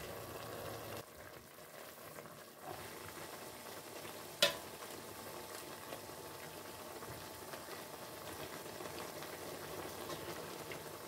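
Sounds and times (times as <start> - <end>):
stew bubbling: 0.0 - 11.0.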